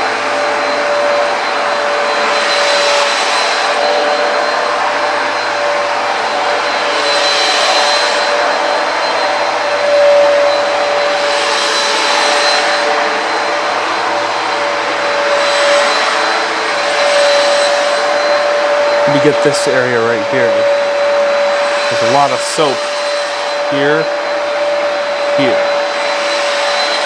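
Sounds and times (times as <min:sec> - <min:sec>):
carpet cleaner motor whine: 0:00.0 - 0:27.0.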